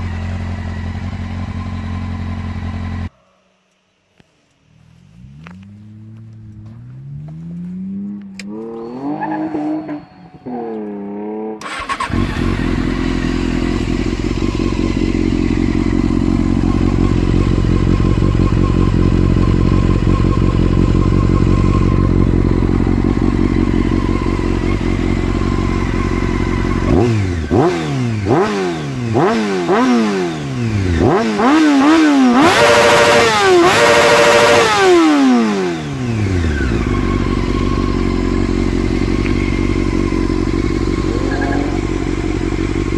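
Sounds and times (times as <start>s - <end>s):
motorcycle engine revving and idling: 0.0s - 3.2s, 4.7s - 42.9s.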